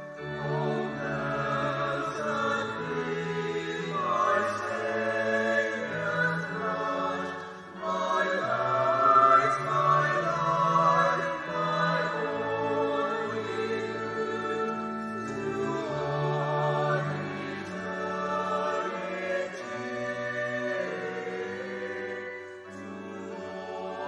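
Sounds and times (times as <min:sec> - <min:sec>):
choir singing held chords: 0:00.0 - 0:24.0
low sustained notes: 0:00.0 - 0:24.0.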